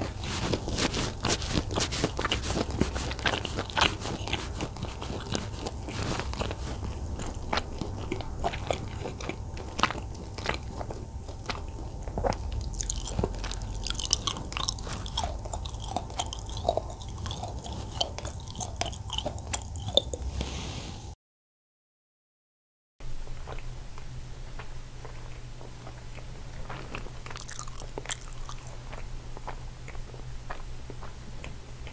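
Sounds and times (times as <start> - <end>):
person chewing crunchy ribs: 0.0 - 20.4, 23.2 - 31.9.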